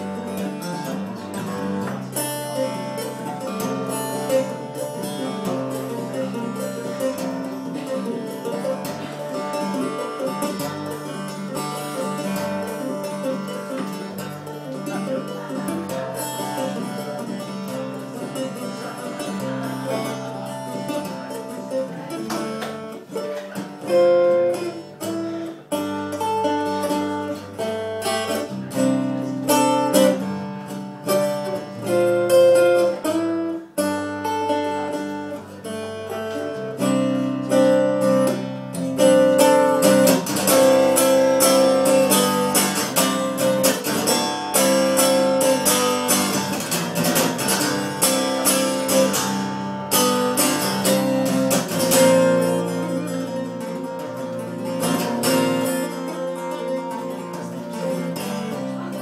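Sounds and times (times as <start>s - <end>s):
acoustic guitar chords: 0.0s - 59.0s.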